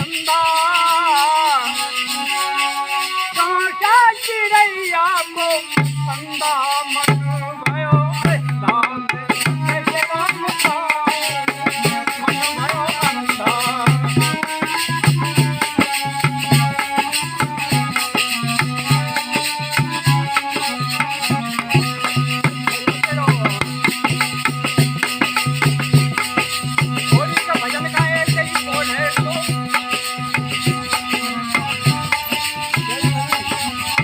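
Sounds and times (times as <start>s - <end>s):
music with drum beat and percussion: 0.0s - 34.0s.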